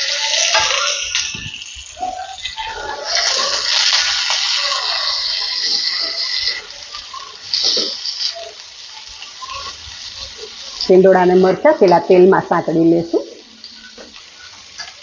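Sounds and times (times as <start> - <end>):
wooden spatula stirring in pan: 0.0 - 12.2, 13.3 - 15.0
vegetables sizzling in hot oil: 0.0 - 15.0.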